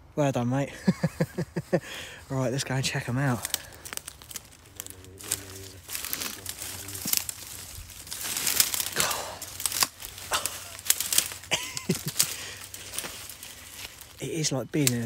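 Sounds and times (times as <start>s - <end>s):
footsteps crackling through leaves: 1.0s - 15.0s.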